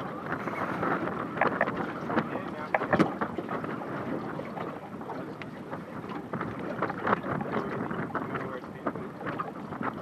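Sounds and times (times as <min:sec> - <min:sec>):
water slapping boat hull: 0:00.0 - 0:10.0
wind buffeting microphone: 0:00.0 - 0:10.0.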